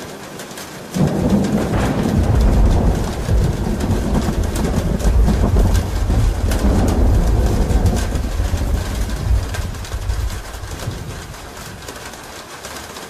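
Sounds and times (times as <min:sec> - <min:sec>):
rain on a roof: 0:00.0 - 0:13.0
thunder rumbling: 0:01.0 - 0:12.4.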